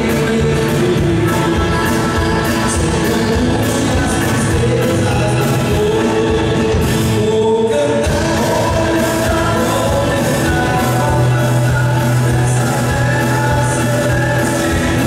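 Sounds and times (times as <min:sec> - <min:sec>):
drums: 0:00.0 - 0:15.0
electric bass: 0:00.0 - 0:15.0
person singing: 0:00.0 - 0:15.0.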